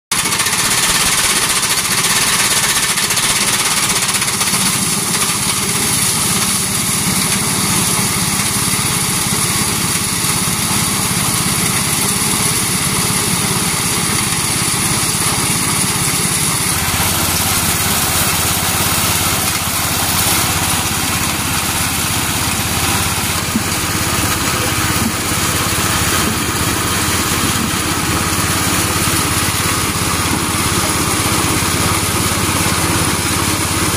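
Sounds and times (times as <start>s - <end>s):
small engine humming: 0.2s - 33.9s.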